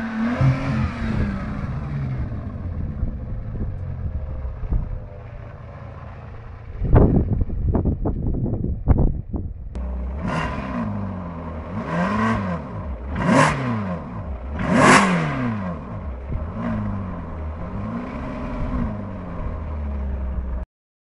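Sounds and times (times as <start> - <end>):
car engine revving: 0.0 - 7.6, 9.7 - 20.6.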